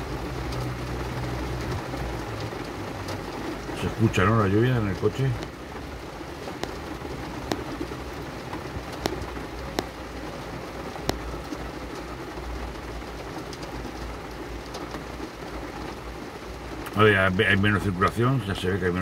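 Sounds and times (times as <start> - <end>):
raindrop taps: 0.0 - 17.0
heavy rain on car roof: 0.0 - 19.0.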